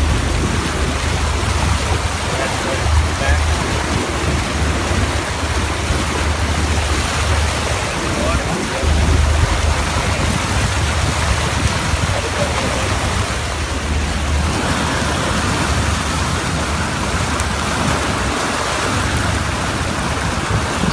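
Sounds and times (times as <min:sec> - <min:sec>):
water rushing in boat wake: 0:00.0 - 0:20.9.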